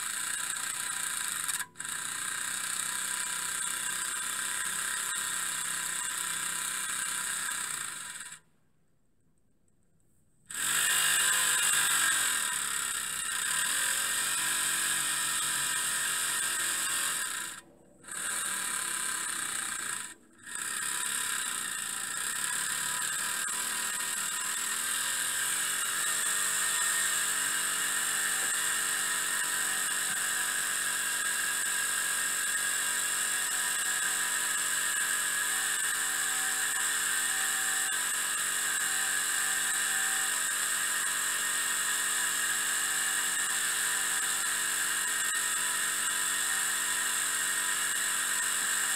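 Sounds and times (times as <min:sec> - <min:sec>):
miniature steam engine whine: 0:00.0 - 0:08.4, 0:10.5 - 0:48.9.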